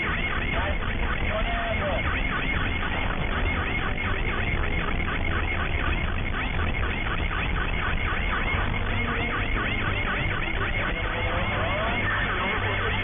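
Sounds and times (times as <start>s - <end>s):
police siren yelping: 0.0s - 13.0s.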